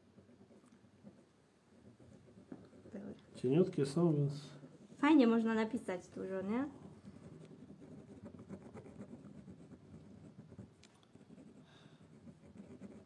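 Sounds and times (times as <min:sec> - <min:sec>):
pen scratching on wood: 0:00.0 - 0:13.0.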